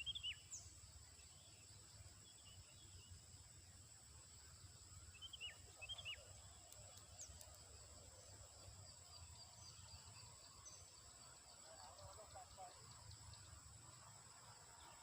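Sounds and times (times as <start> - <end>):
bird chirps: 0.0 - 3.2, 4.6 - 15.0.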